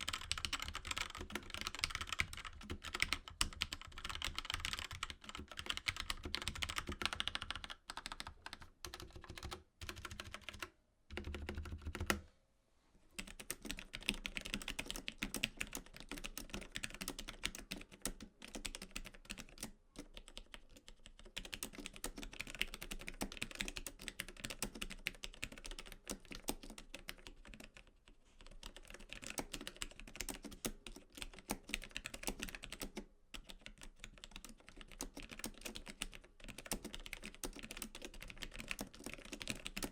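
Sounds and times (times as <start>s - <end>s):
mechanical keyboard typing clacks: 0.0s - 12.2s, 13.2s - 20.6s, 21.4s - 27.6s, 28.6s - 39.9s.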